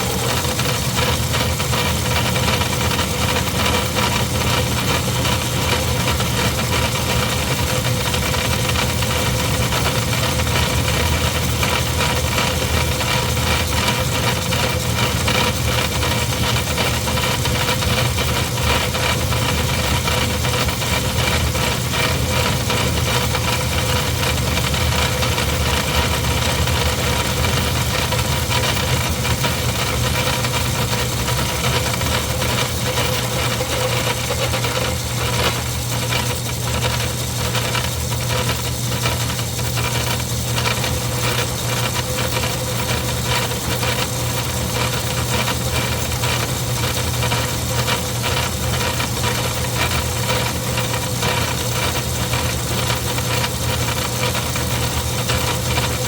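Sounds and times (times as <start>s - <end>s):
metal lathe humming: 0.0s - 56.0s.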